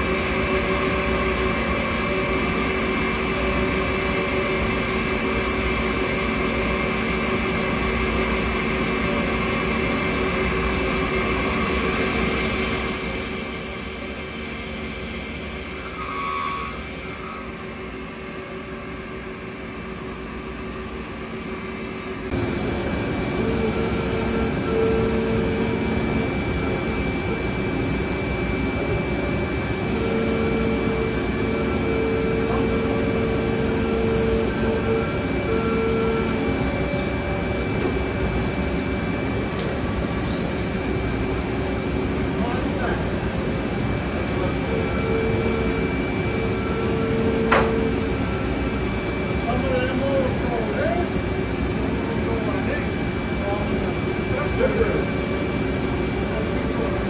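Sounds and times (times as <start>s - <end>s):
high machine whine: 0.0s - 57.0s
lathe machine hum: 0.0s - 57.0s.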